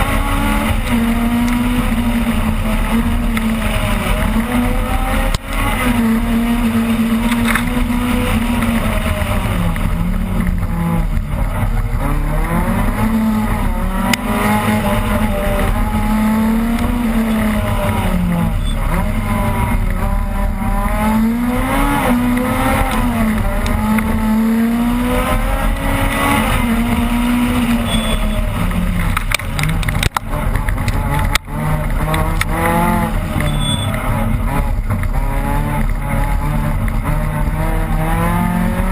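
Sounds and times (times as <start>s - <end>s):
car engine revving through gears: 0.0s - 38.9s.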